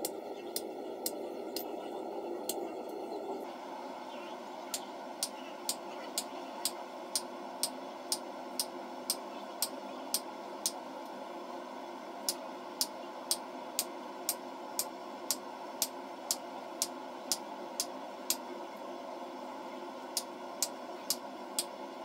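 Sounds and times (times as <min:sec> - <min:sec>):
gas forge hum: 0:00.0 - 0:22.0.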